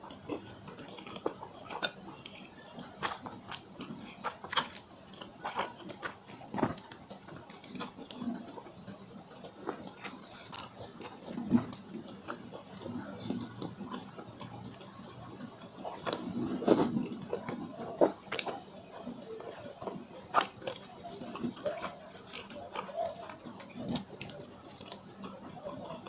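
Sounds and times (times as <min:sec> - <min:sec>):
wet chewing and smacking: 0:00.0 - 0:26.0.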